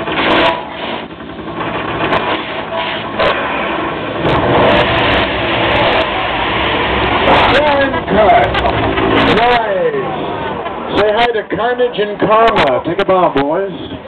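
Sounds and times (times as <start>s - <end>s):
car engines revving loudly: 0.0s - 11.4s.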